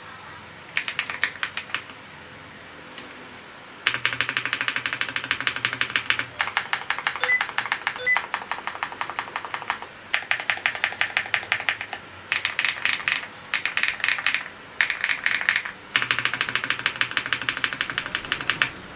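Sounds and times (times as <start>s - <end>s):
fast typing on mechanical keyboard: 0.7s - 2.0s, 3.8s - 18.9s.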